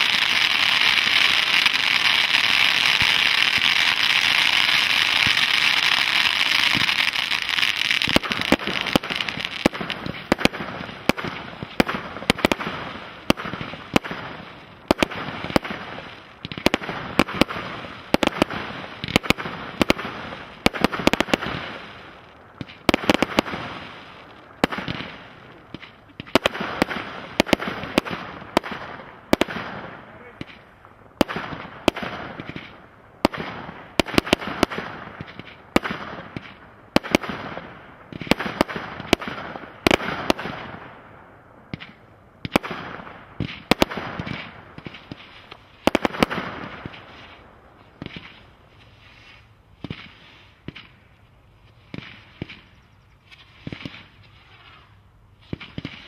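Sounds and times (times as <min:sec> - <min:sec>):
fireworks bangs: 0:00.0 - 0:51.1, 0:51.8 - 0:56.0
fireworks hissing crackle: 0:00.0 - 0:56.0.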